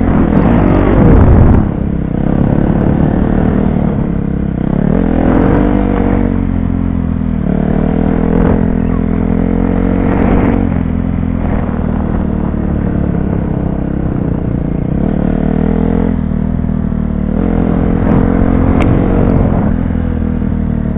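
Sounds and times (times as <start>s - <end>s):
dirt bike engine revving: 0.0s - 6.8s, 7.4s - 16.3s, 17.1s - 20.0s.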